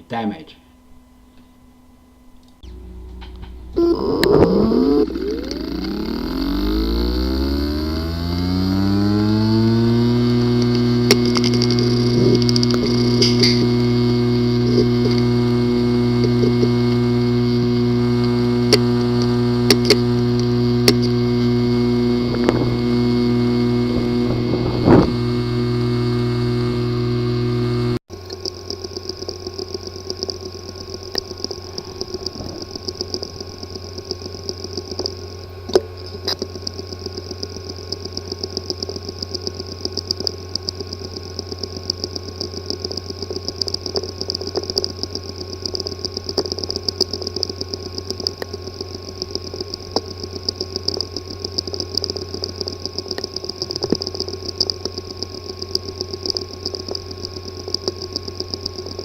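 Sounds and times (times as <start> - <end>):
hard drive buzzing and ticking: 0.0 - 59.0
loud hard drive clicks: 2.4 - 59.0.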